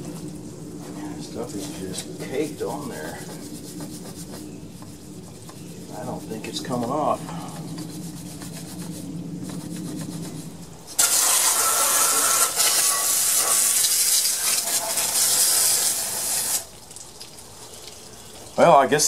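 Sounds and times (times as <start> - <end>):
hose spraying water: 0.0 - 19.0.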